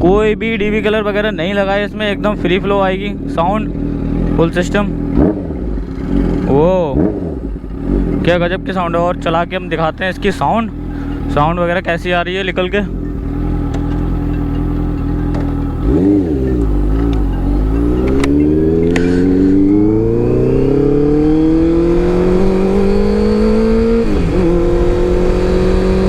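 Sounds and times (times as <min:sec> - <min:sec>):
motorcycle engine revving and accelerating: 0:00.0 - 0:26.0.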